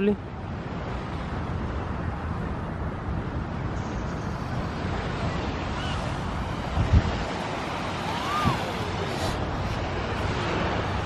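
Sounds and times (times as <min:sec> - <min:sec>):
small waves lapping on sand: 0:00.0 - 0:11.0
wind buffeting microphone: 0:00.0 - 0:11.0.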